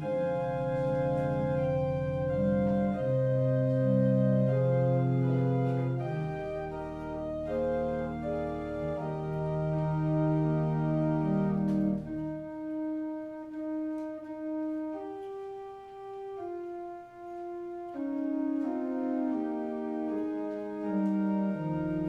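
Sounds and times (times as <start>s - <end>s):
deep bass organ notes: 0.0s - 22.0s
organ chords: 0.0s - 22.0s.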